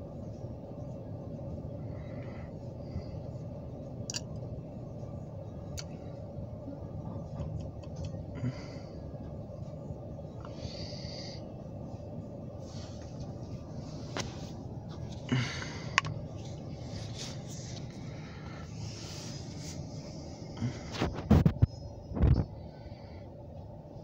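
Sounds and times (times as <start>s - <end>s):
freight train low rumble: 0.0s - 24.0s.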